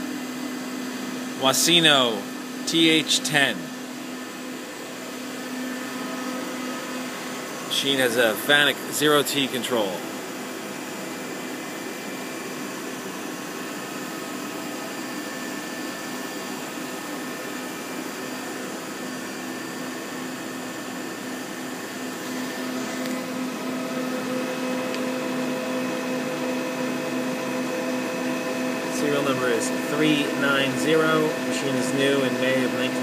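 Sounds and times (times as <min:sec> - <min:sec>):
lathe spindle humming and whining: 0:00.0 - 0:33.0.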